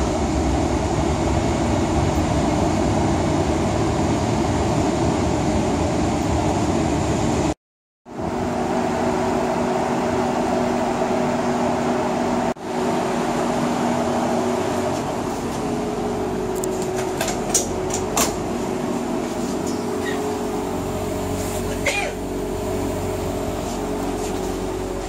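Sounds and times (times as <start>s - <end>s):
train air-conditioning hum: 0.0s - 25.0s.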